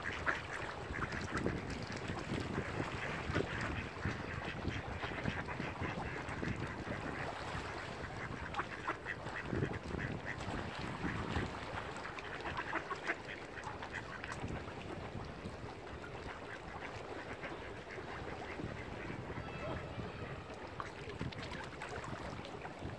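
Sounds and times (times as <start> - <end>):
ducks quacking: 0.0 - 1.6, 2.2 - 10.5, 11.9 - 14.5, 16.0 - 22.3.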